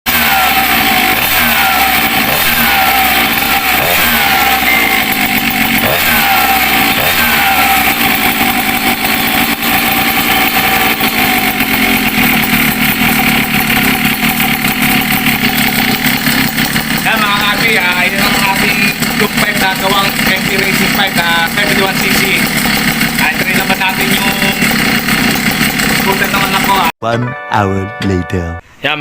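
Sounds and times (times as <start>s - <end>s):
scooter engine revving: 0.0s - 27.0s.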